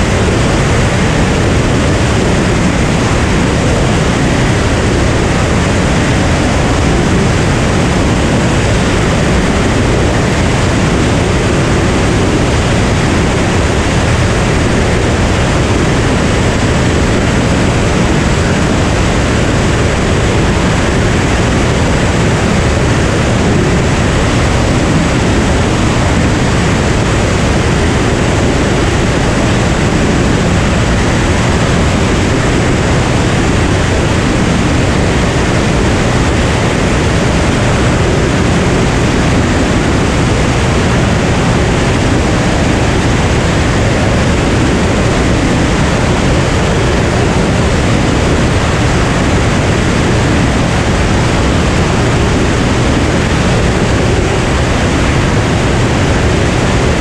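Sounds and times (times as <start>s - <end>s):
propeller plane engine and airflow: 0.0s - 57.0s.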